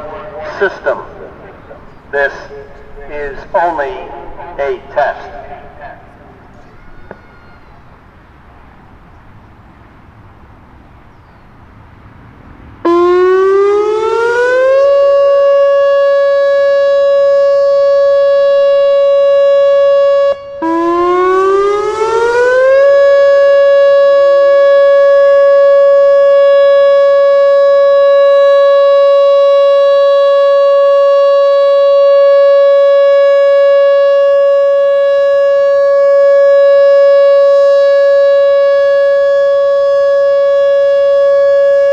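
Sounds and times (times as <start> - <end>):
warning siren steady tone: 0.0 - 6.8, 12.7 - 41.9.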